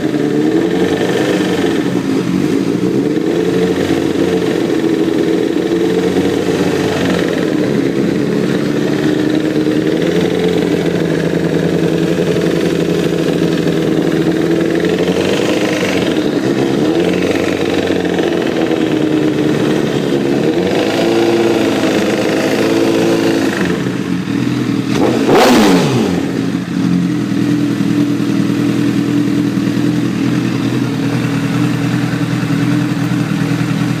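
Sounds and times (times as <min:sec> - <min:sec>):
engine ticking: 0:00.0 - 0:34.0
motorcycle engine idling: 0:00.0 - 0:34.0.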